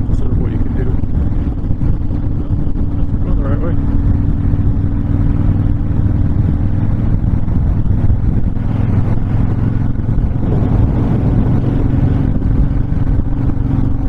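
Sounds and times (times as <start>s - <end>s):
motorcycle engine cruising: 0.0s - 14.0s
wind on microphone: 0.0s - 14.0s.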